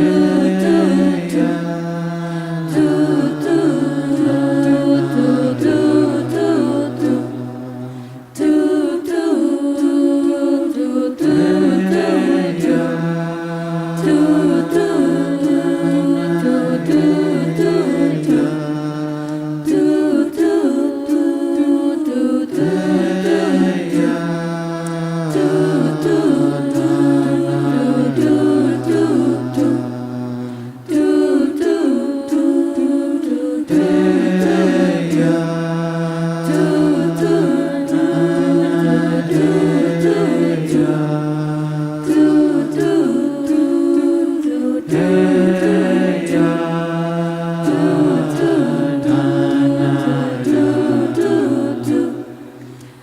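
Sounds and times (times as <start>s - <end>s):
a cappella group singing in harmony: 0.0s - 53.0s.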